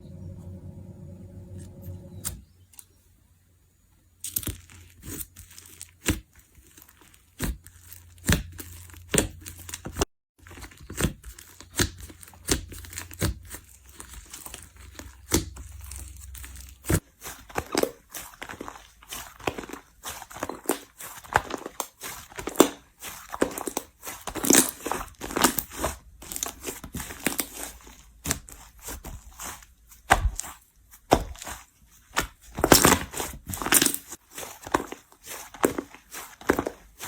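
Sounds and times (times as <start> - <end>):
sticky pops and crackles: 4.2 - 36.8.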